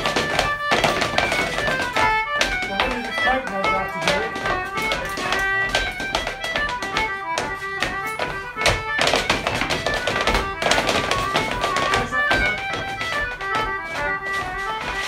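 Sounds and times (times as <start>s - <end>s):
dancers' feet tapping: 0.0s - 15.0s
squeezebox dance tune: 0.0s - 15.0s.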